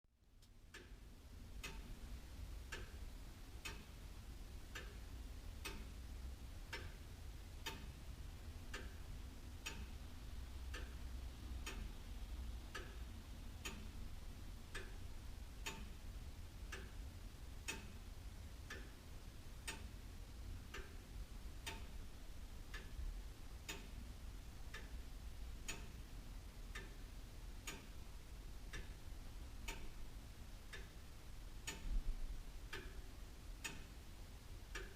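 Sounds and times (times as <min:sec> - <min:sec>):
clock ticking: 0:00.7 - 0:07.0, 0:07.6 - 0:34.9.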